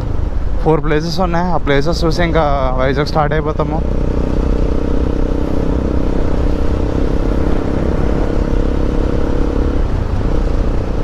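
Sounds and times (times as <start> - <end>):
wind rumble on microphone: 0.0 - 11.0
motorcycle engine running: 2.2 - 11.0.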